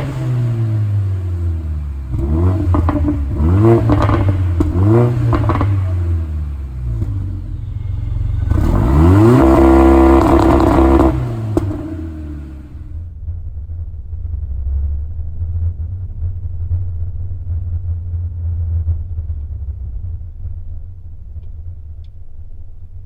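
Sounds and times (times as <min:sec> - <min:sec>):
exhaust crackles and pops: 0:00.0 - 0:01.2, 0:02.0 - 0:23.0
car engine revving: 0:00.0 - 0:20.5.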